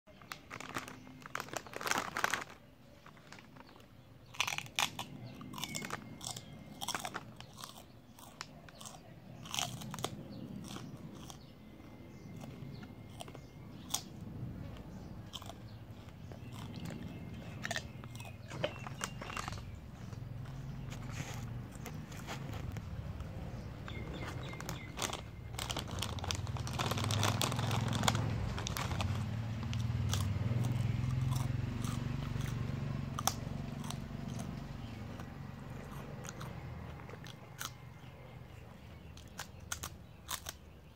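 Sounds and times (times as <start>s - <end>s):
dog crunching a biscuit: 0.1s - 38.4s, 39.0s - 40.9s.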